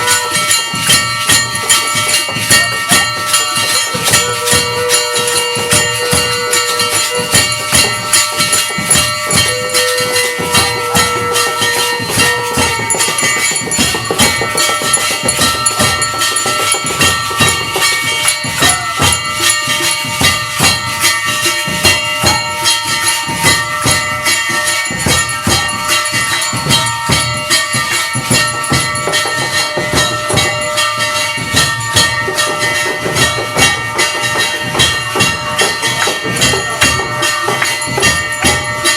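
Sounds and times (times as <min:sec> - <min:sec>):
drum and cymbal strokes: 0:00.0 - 0:38.9
temple bells ringing: 0:00.0 - 0:38.9.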